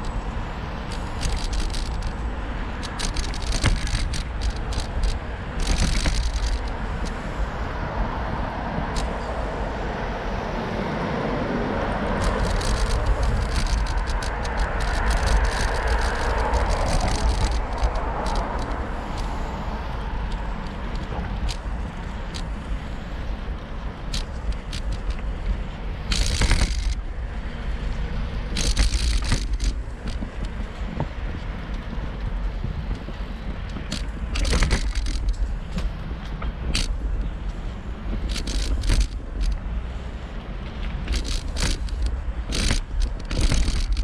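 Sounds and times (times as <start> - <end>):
bicycle rattling clicks: 0.0 - 7.6, 8.8 - 9.5, 11.9 - 44.0
traffic: 0.0 - 44.0
wind rumbling on microphone: 0.0 - 44.0.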